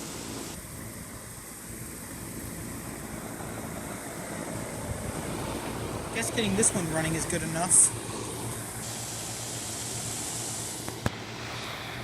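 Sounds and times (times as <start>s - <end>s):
compressor low hum: 0.0s - 12.0s
fan rush of air: 0.0s - 12.0s.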